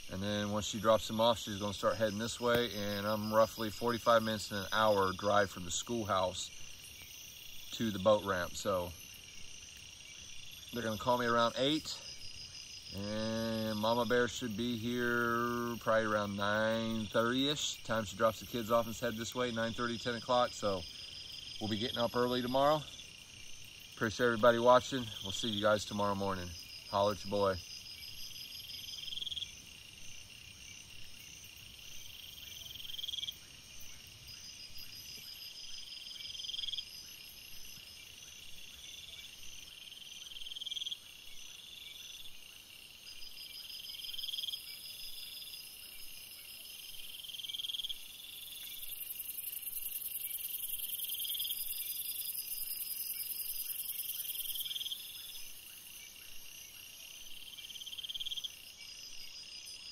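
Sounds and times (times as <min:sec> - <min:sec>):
high even insect hiss: 0:00.0 - 0:59.9
insect call stopping sharply: 0:00.0 - 0:59.9
steady pulsing insect trill: 0:00.0 - 0:59.9.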